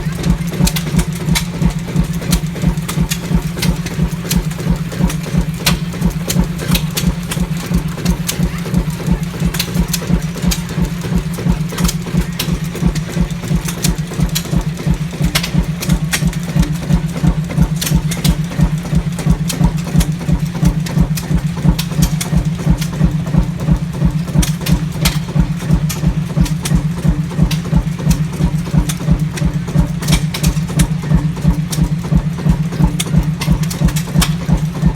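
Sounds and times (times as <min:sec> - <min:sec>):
diesel engine thumping: 0:00.0 - 0:34.9.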